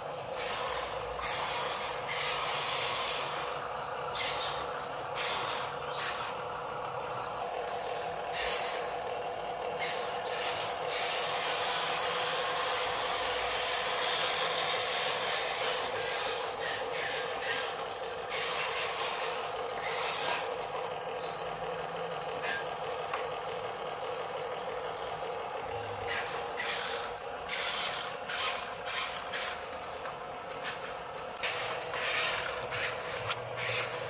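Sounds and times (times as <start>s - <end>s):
electric motor whining: 0.0s - 34.0s
rough scraping grinding: 0.0s - 34.0s.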